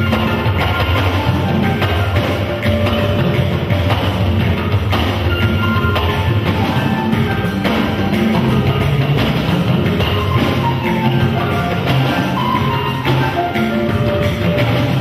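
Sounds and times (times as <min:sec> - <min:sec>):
instrumental music with drums: 0:00.0 - 0:15.0.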